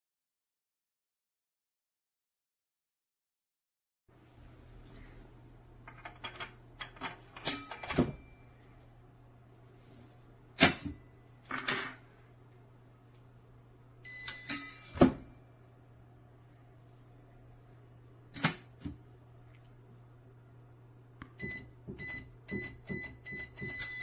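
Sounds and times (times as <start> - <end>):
steady low hum: 4.1 - 24.0.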